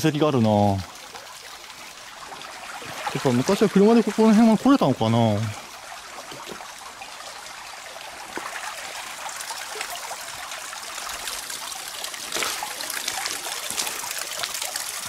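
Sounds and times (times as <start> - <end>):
stream trickling over stones: 0.0 - 15.0.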